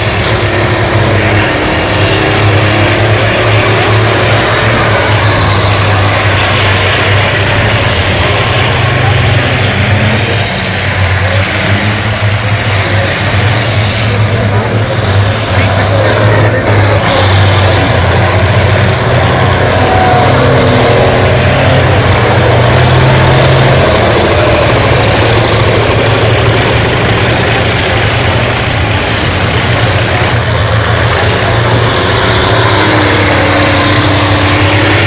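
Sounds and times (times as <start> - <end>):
diesel engines running loud: 0.0 - 35.0.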